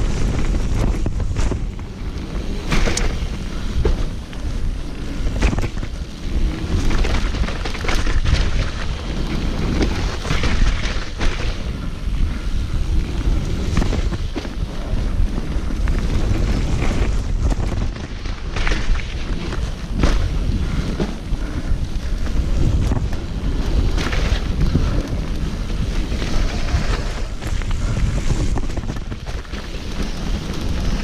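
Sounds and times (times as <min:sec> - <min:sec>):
bike knocks and rattles: 0:00.0 - 0:31.0
steady rumble: 0:00.0 - 0:31.0
wind buffeting microphone: 0:00.0 - 0:31.0.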